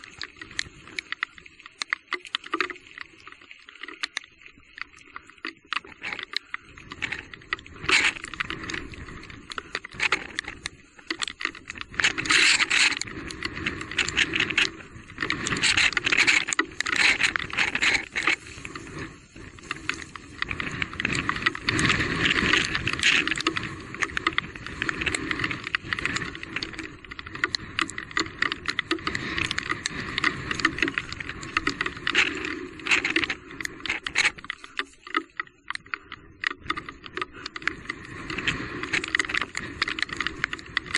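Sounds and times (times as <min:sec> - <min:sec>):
bike rattling over rocky trail: 0:05.6 - 0:40.9.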